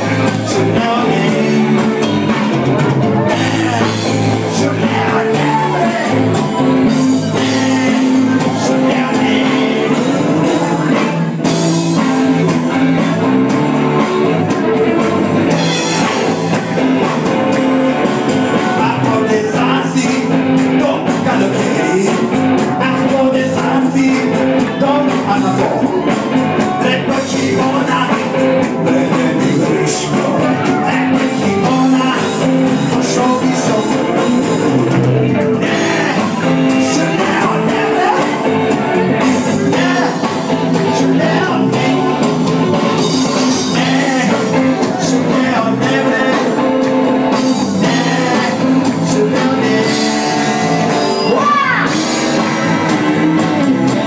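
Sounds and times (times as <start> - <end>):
live rock band with singing: 0.0 - 54.0
steady drums: 0.0 - 54.0.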